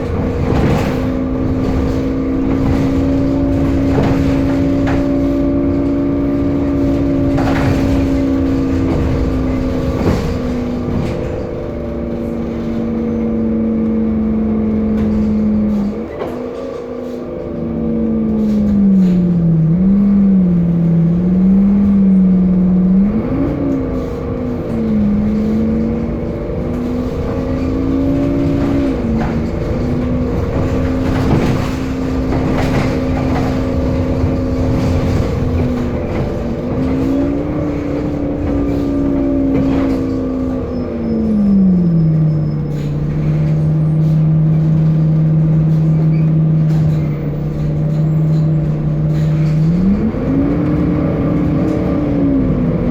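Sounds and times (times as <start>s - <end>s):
bus diesel engine running: 0.0s - 52.9s.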